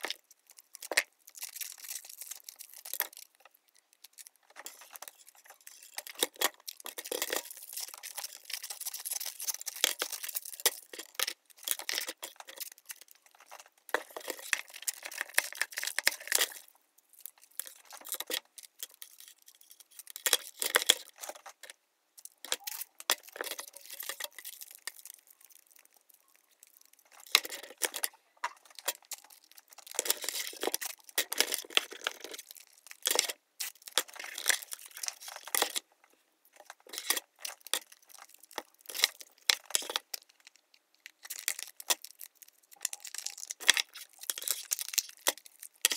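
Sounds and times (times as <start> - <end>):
paper and plastic crinkling: 0.0 - 45.9.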